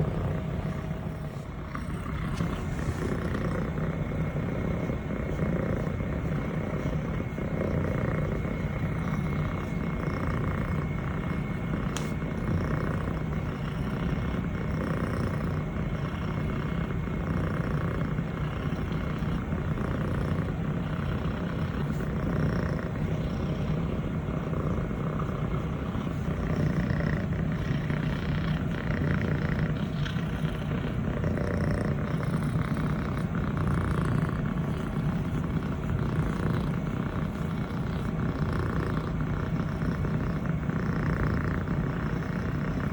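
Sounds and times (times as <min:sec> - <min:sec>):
kitten purring: 0:00.0 - 0:42.9.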